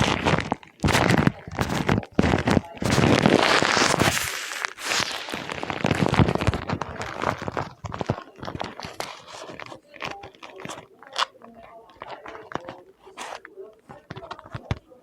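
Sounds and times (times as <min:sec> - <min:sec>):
paper crumpling: 0:00.0 - 0:15.0.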